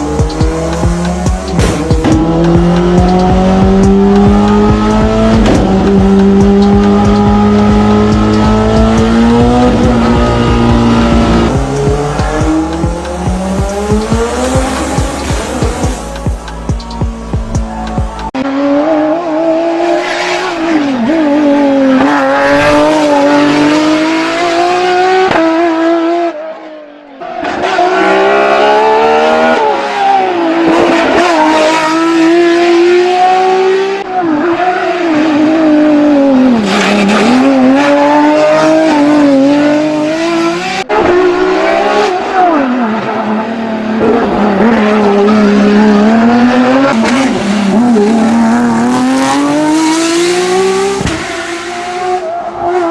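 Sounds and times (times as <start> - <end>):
race car engine at high revs: 0.0 - 52.9.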